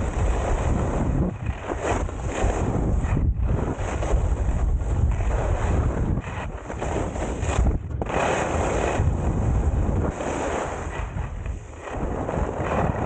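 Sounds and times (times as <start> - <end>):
skis sliding on snow: 0.0 - 13.0
wind buffeting microphone: 0.0 - 13.0.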